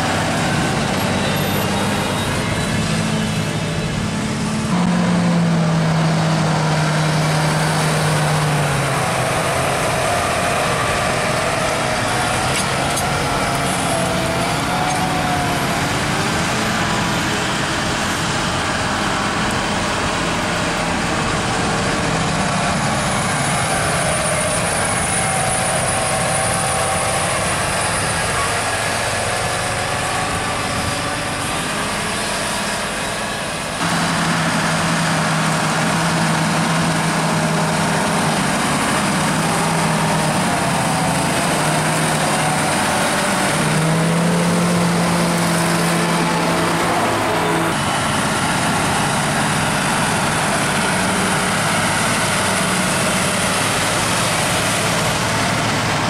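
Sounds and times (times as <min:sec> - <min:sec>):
tractor engines running under load: 0:00.0 - 0:56.0.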